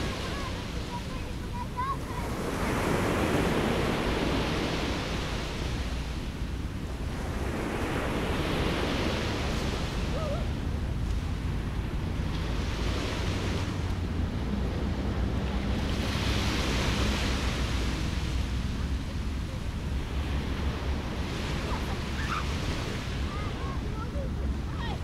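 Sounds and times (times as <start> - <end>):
sea surf breaking: 0.0 - 25.0
wind rumbling on microphone: 0.0 - 25.0.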